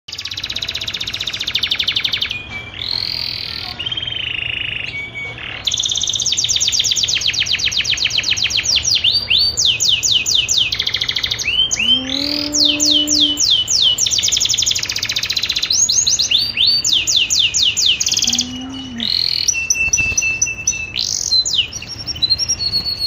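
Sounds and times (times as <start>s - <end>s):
canary singing: 0.1s - 23.0s.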